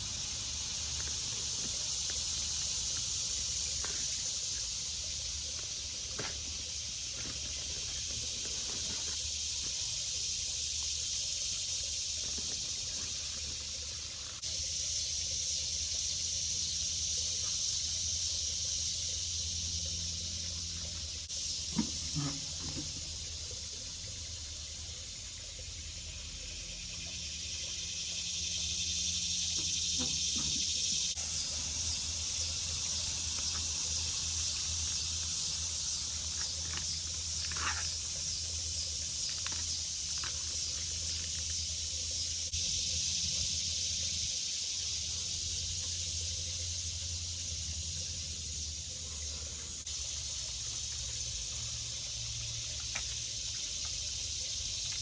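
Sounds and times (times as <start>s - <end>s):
steady hissing noise: 0.0s - 55.0s.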